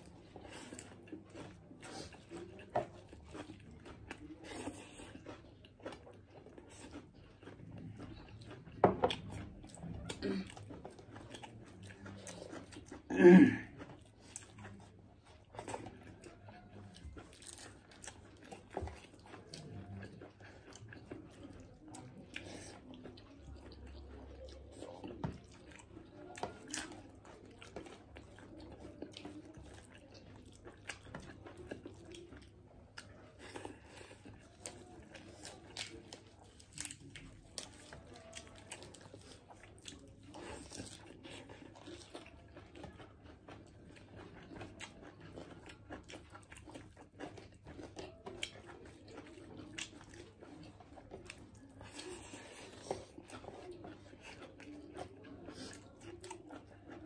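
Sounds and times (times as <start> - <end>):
chewing and biting: 0.0 - 57.0.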